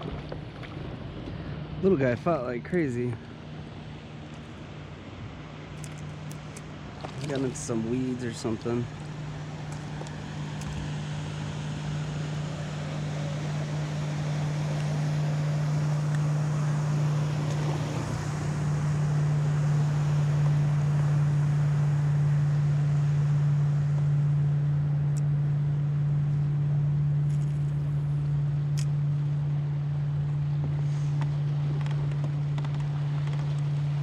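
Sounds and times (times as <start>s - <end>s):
motorboat engine droning: 0.0s - 34.0s.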